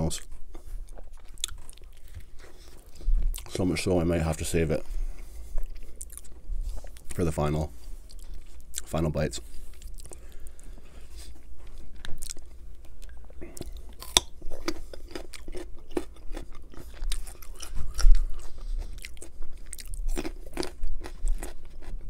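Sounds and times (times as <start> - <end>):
chewing food: 0.2 - 4.1, 4.8 - 7.2, 8.0 - 22.0
carrot crunching: 0.2 - 22.0.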